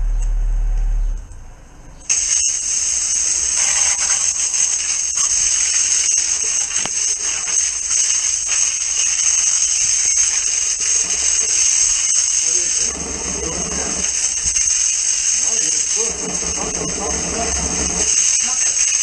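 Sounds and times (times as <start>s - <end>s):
water jet spraying: 2.1s - 19.0s.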